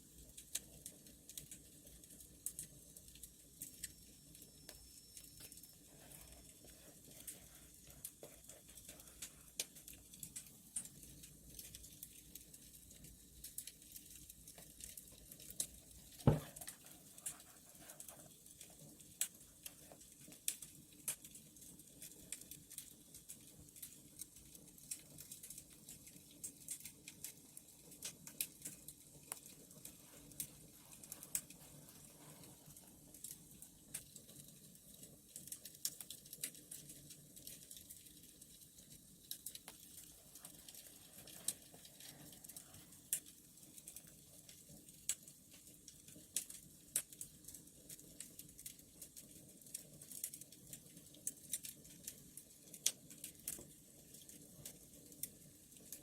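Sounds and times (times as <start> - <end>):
wood fire crackling: 0.0 - 56.0
sharp pops and snaps: 0.3 - 55.3.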